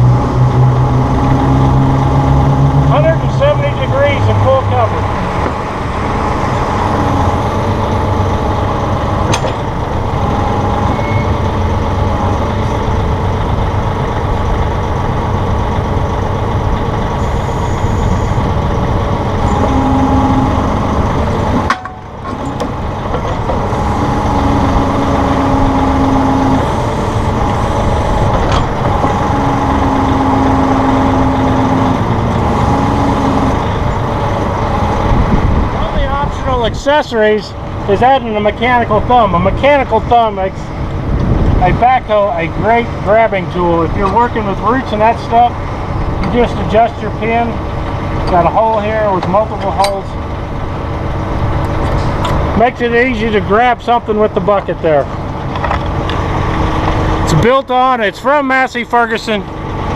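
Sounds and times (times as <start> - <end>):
hydraulics whining: 0.0 - 59.9
tractor diesel engine running: 0.0 - 59.9.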